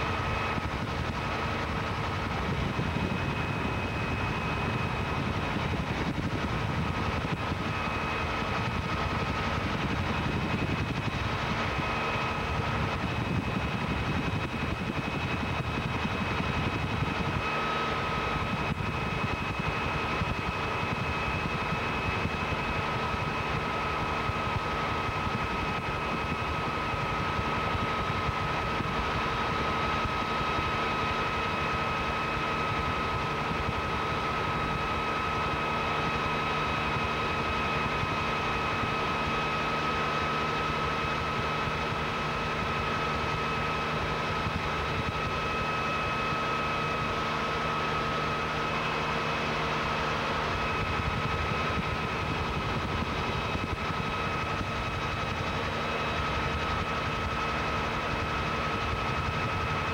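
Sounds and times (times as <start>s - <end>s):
helicopter engine and rotor drone: 0.0s - 59.9s
high whine: 0.0s - 59.9s.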